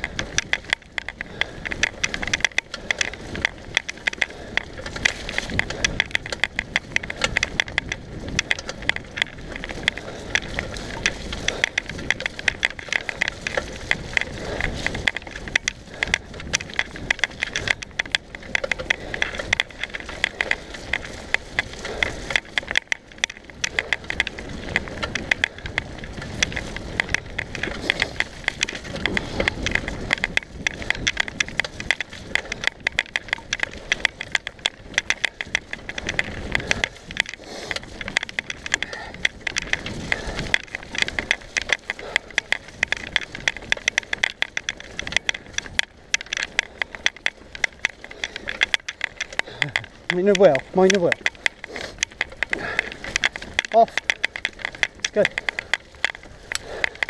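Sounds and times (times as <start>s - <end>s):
bike clicking and rattling: 0.0s - 57.0s
bike tyres on dirt: 0.0s - 57.0s
wind rumble: 0.0s - 57.0s.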